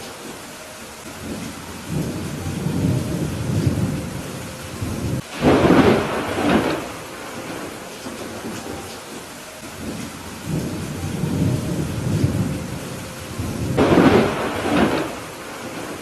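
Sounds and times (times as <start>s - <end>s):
steady rain: 0.0s - 16.0s
rolling thunder: 1.2s - 8.6s, 9.6s - 16.0s.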